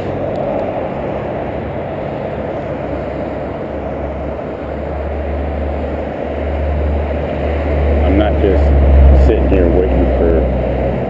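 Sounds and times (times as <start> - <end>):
road traffic engine rumble: 0.0 - 11.0.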